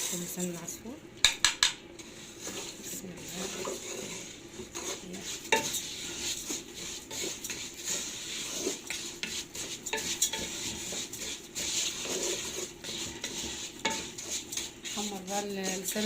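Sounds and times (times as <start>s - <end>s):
oil sizzling: 0.0s - 16.0s
metal spoon scraping a pot: 2.0s - 16.0s.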